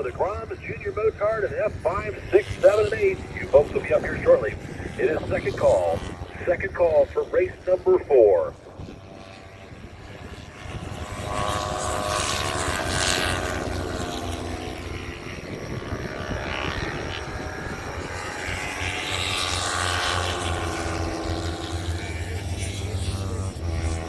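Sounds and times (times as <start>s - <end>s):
race motorcycles passing: 0.0s - 24.0s.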